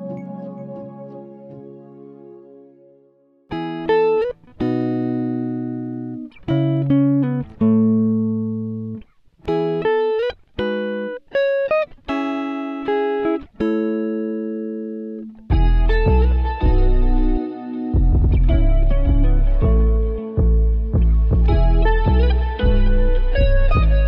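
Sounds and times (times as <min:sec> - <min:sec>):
guitar strumming slow chords: 0:00.0 - 0:24.0.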